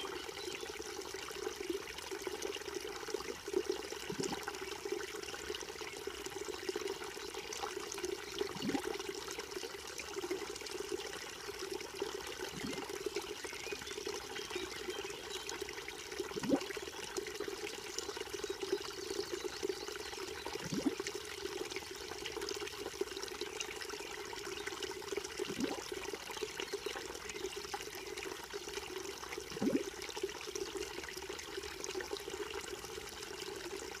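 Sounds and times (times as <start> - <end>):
creek trickling over stones: 0.0 - 34.0.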